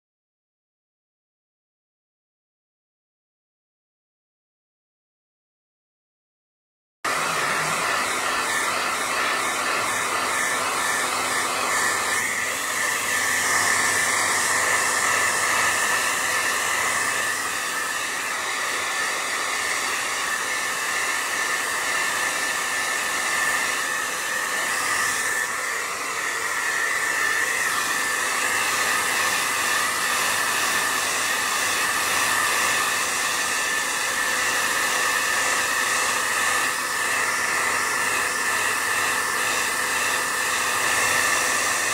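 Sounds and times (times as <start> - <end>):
blow dryer whining: 7.1 - 41.9.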